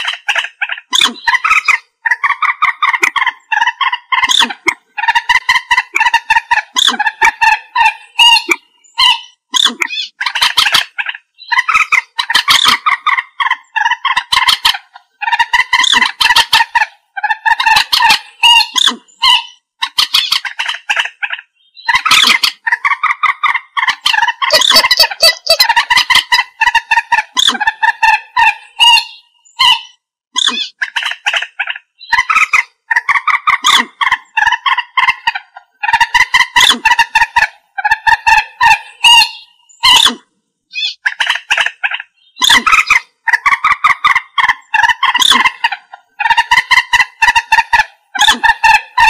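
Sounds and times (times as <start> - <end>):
moorhen clucking calls: 0.0 - 49.0.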